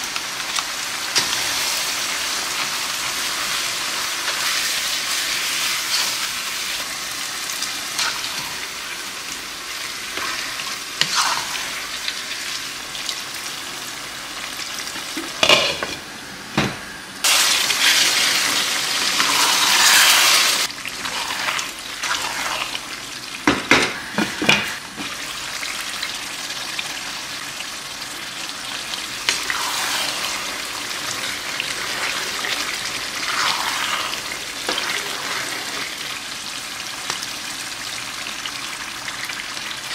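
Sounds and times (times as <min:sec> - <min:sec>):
food sizzling in a pot: 0:00.0 - 0:39.9.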